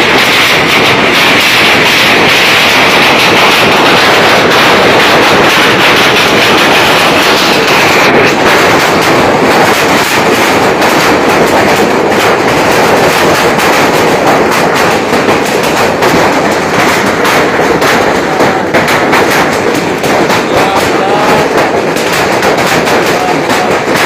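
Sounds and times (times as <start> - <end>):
hail pelting roof and ground: 0.0 - 24.0.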